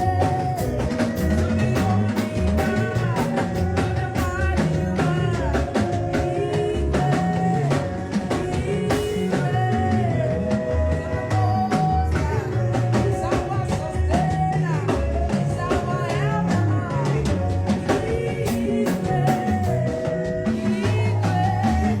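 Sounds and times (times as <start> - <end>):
bass line: 0.0 - 22.0
drum kit: 0.0 - 22.0
live band playing: 0.0 - 22.0
person singing: 0.0 - 22.0.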